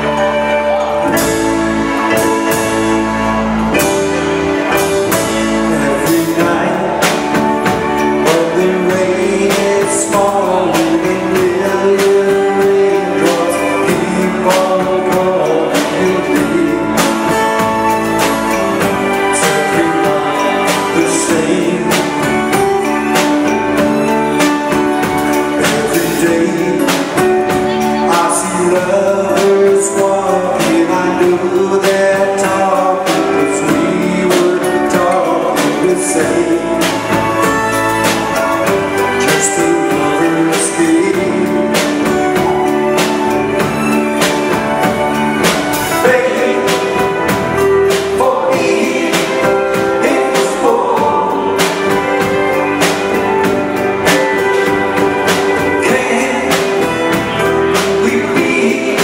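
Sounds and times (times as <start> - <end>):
bass guitar: 0.0 - 59.0
guitars: 0.0 - 59.0
keyboards: 0.0 - 59.0
person singing: 0.0 - 59.0
steady drum beat: 0.8 - 59.0.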